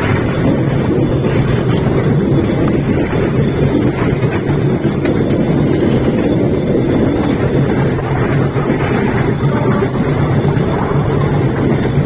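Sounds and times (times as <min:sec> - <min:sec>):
train engine and wheels rumbling: 0:00.0 - 0:12.0
wind buffeting microphone: 0:00.0 - 0:12.0.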